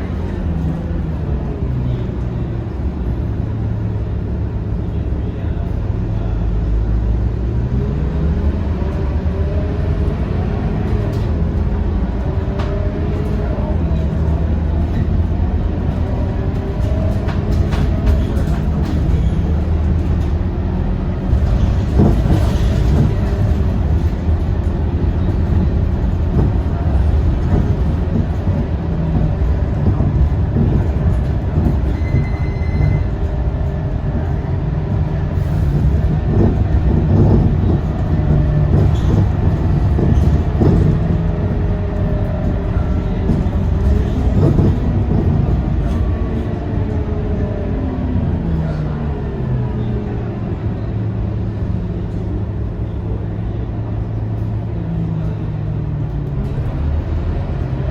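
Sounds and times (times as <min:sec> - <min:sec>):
bus body rattling: 0:00.0 - 0:57.9
bus diesel engine drone: 0:00.0 - 0:57.9.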